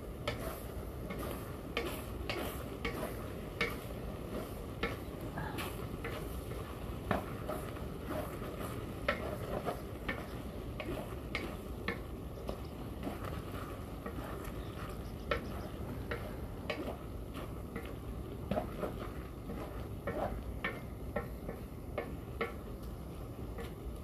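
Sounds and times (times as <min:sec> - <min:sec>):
wooden spatula scraping wok: 0:00.0 - 0:22.6.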